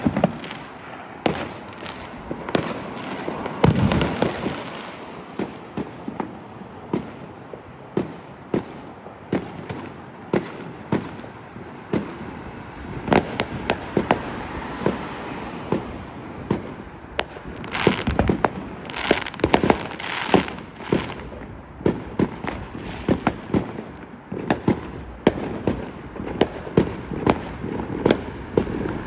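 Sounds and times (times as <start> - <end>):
fireworks bangs: 0.0 - 29.0
fireworks crackle and rumble: 0.0 - 29.0.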